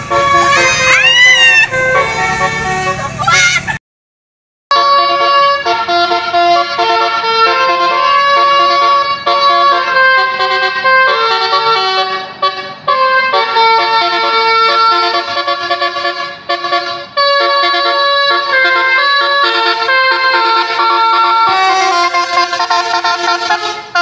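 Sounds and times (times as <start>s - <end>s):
musical air horn melody: 0.0s - 3.2s, 4.7s - 24.0s.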